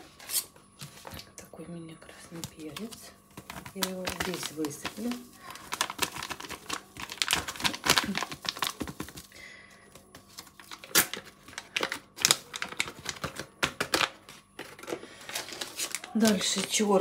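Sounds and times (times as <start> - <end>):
spice sachet crinkling: 2.3 - 17.0.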